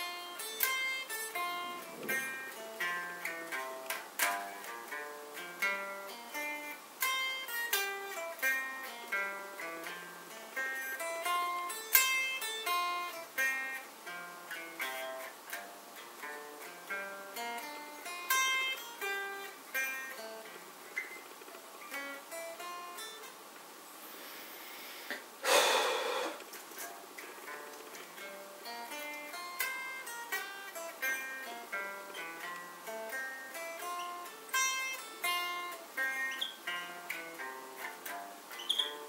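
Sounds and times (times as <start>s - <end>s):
electric guitar arpeggio: 0.0s - 23.3s, 27.2s - 39.0s.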